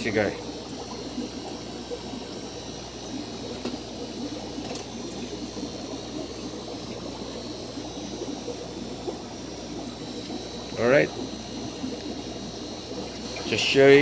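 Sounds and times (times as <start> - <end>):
air bubbles breaking at surface: 0.0 - 13.7
aquarium filter water bubbling: 0.0 - 14.0
steady low hum: 0.0 - 14.0.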